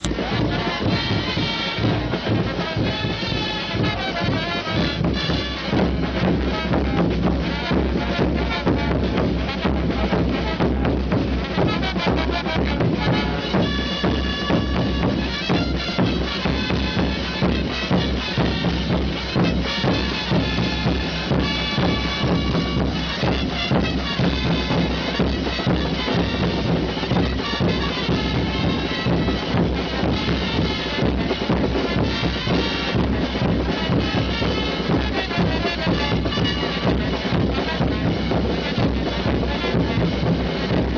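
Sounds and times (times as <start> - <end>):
drums beating steady rhythm: 0.0 - 40.9
wind instruments playing melody: 0.0 - 40.9.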